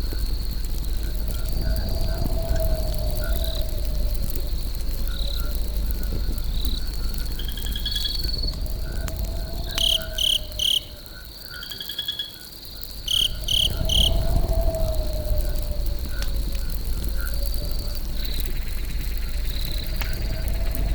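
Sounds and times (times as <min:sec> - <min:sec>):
low continuous rumble: 0:00.0 - 0:11.3, 0:12.8 - 0:20.9
crickets chirping: 0:00.0 - 0:20.9
insect trills: 0:00.0 - 0:20.9.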